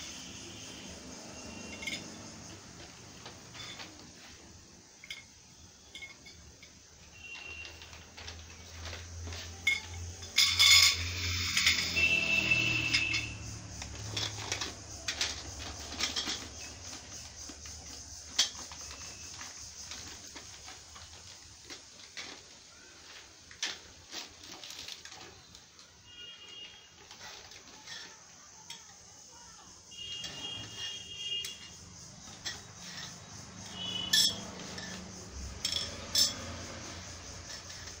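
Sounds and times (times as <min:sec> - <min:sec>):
metal tubes clinking and knocking: 0:00.0 - 0:38.0.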